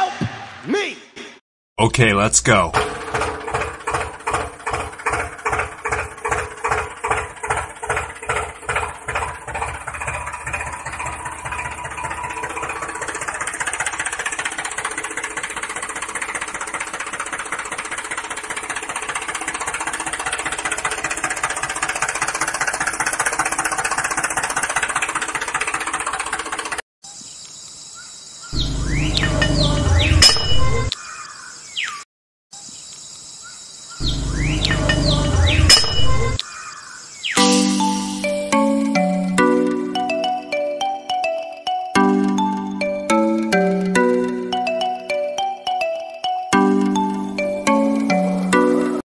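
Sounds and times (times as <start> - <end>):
tractor engine chugging: 1.9 - 26.8, 28.6 - 31.0, 34.0 - 36.5, 37.4 - 49.0.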